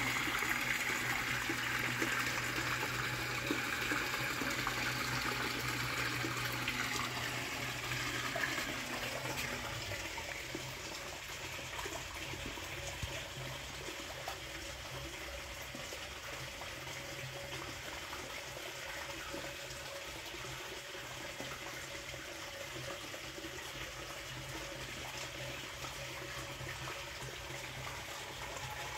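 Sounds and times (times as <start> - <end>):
water trickling and bubbling: 0.0 - 28.9.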